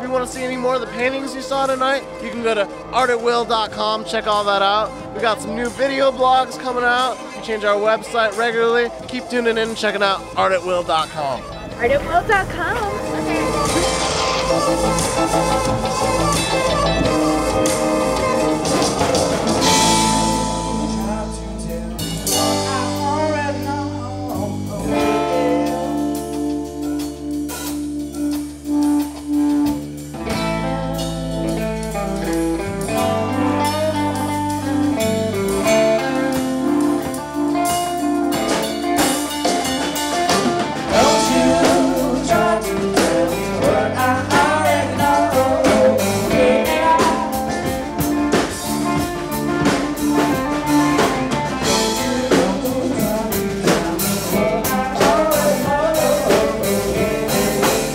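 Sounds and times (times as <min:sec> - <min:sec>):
band playing with guitar bass and drums: 0:00.0 - 0:57.9.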